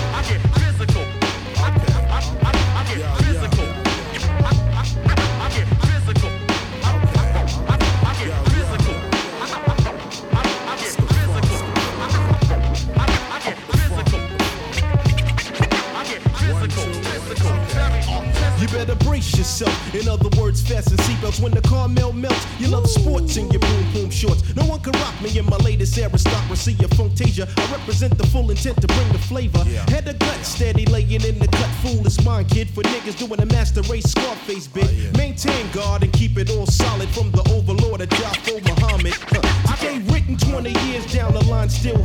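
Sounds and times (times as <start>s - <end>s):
hip hop beat with heavy bass: 0.0s - 42.0s
rapping over a beat: 0.0s - 42.0s.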